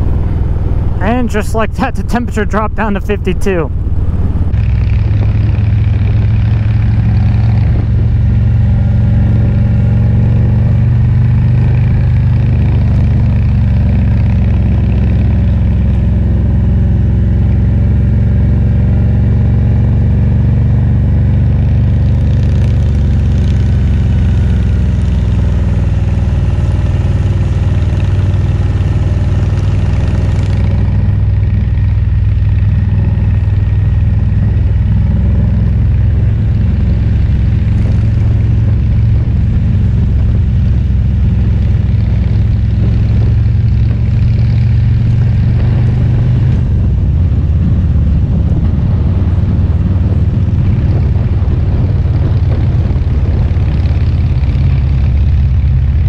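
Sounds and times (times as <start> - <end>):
motorcycle engine droning: 0.0 - 56.0
road and wind hiss: 0.0 - 56.0.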